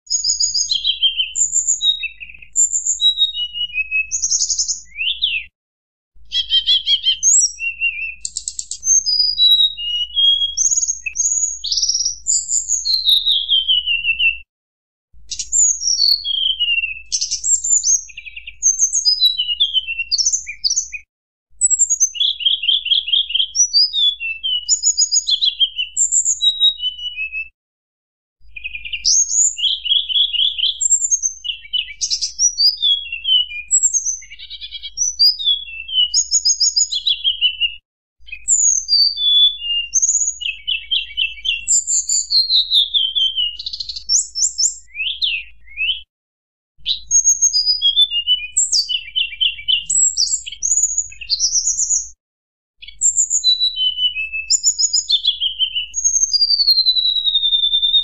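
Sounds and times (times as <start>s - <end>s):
songbird singing: 0.1s - 5.5s, 6.2s - 14.4s, 15.3s - 27.5s, 28.4s - 46.1s, 46.8s - 52.1s, 52.8s - 58.0s.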